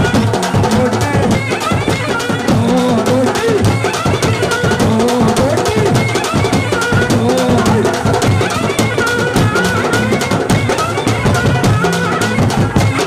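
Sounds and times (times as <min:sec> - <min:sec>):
drums beating: 0:00.0 - 0:13.0
wavering folk melody: 0:00.0 - 0:13.0.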